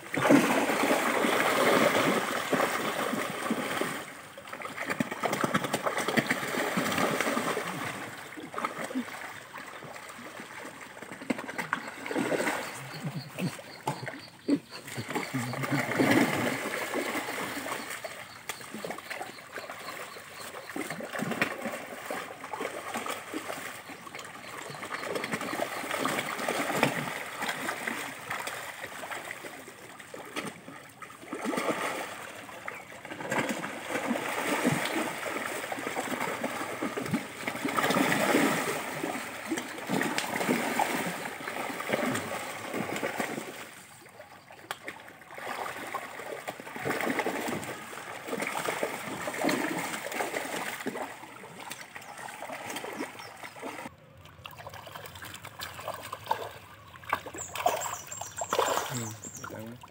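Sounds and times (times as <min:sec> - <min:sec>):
fish thrashing and splashing: 0:00.1 - 0:43.8, 0:44.8 - 0:59.9.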